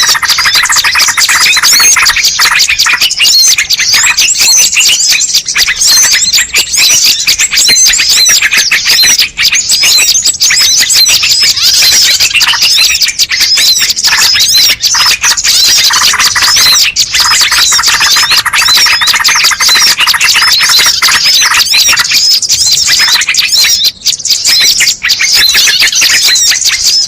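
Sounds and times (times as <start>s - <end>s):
chorus of small birds chirping: 0.0s - 27.0s.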